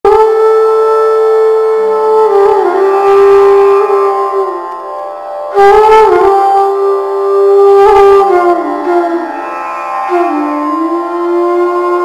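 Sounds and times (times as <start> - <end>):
wind instrument holding melodic notes: 0.1 - 12.0.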